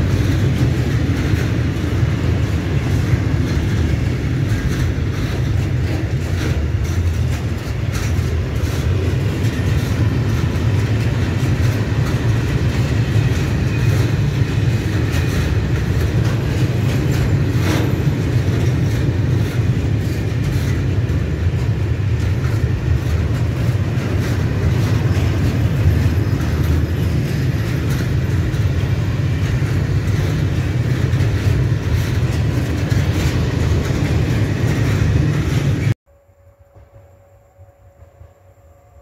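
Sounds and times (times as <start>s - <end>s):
steel wheels rumbling on rails: 0.0s - 36.0s.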